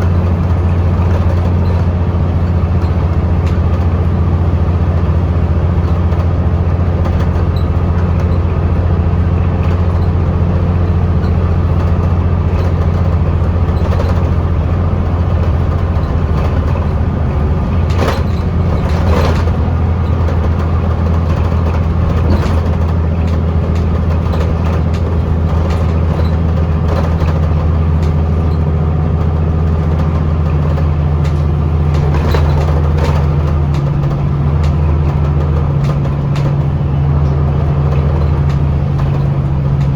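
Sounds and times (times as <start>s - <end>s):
bus diesel engine running: 0.0s - 39.9s
interior rattles: 0.0s - 39.9s.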